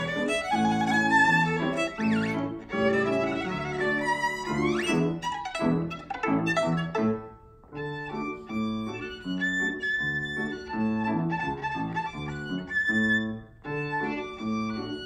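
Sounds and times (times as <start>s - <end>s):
jazz violin: 0.0s - 15.0s.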